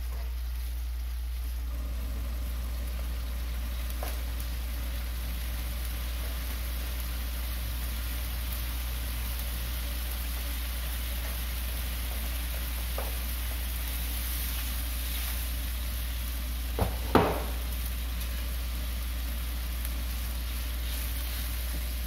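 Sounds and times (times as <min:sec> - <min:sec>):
sauce simmering in a pan: 0:00.0 - 0:22.0.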